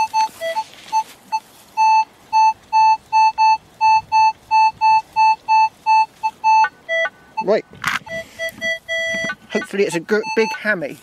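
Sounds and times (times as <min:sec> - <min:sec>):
metal detector beeping: 0:00.0 - 0:10.8.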